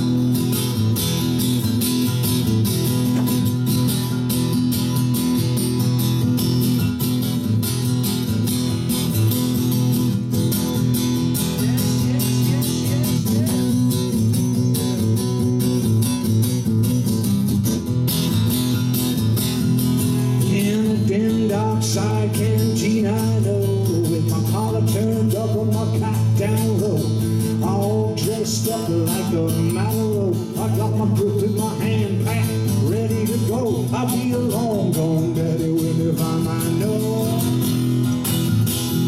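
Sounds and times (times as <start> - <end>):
guitar strumming: 0.0 - 39.0.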